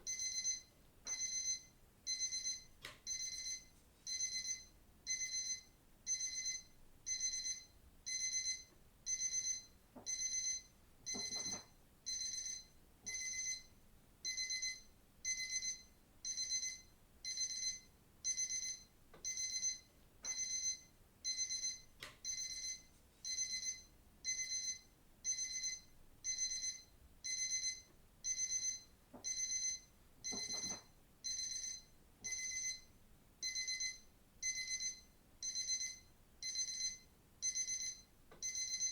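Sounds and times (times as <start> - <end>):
digital watch alarm beeping: 0.1 - 13.7, 14.3 - 38.9.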